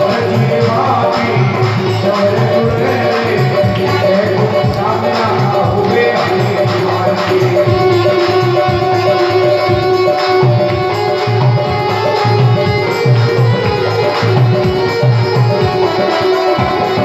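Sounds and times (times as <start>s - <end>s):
hand drum beat: 0.0s - 17.0s
harmonium and keyboard melody: 0.0s - 17.0s.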